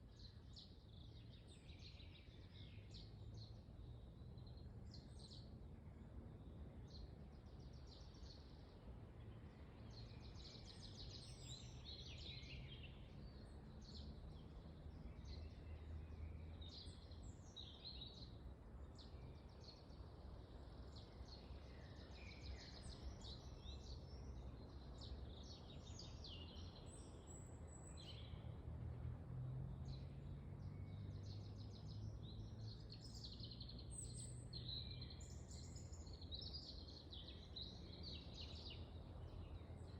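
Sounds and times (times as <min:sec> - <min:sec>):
small birds chirping: 0:00.0 - 0:05.6, 0:06.4 - 0:28.6, 0:29.7 - 0:39.9.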